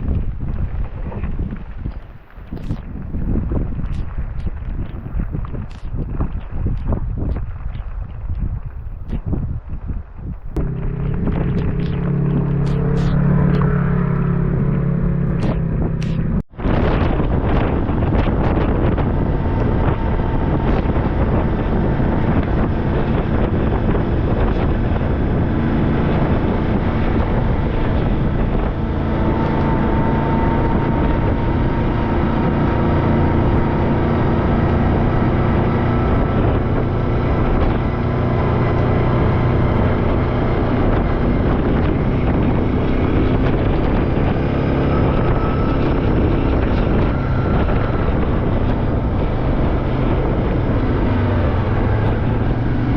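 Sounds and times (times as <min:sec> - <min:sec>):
off-road vehicle engine running: 0:00.0 - 0:52.9
wind buffeting microphone: 0:00.0 - 0:52.9.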